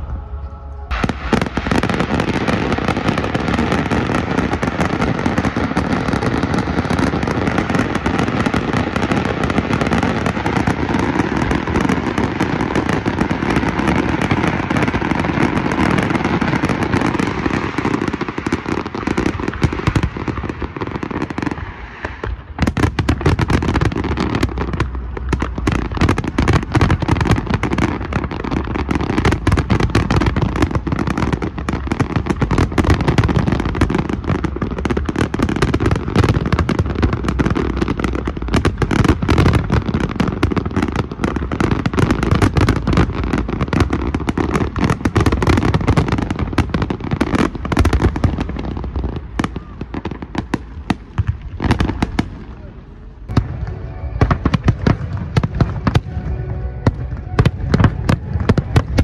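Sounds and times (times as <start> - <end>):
fireworks bursts and crackling: 0.0 - 59.0.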